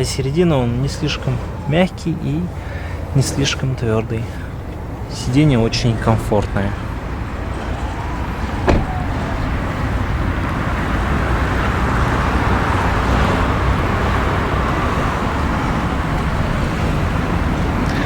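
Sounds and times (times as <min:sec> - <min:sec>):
road traffic noise: 0:00.0 - 0:18.0
vehicle passing: 0:00.0 - 0:18.0.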